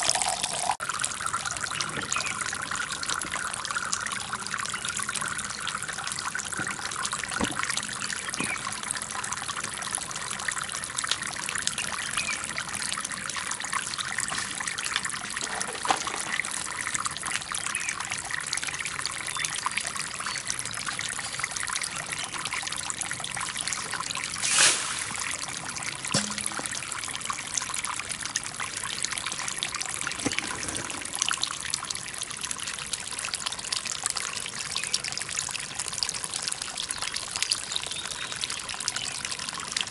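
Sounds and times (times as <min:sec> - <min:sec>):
fountain water trickling and splashing: 0:00.0 - 0:39.9.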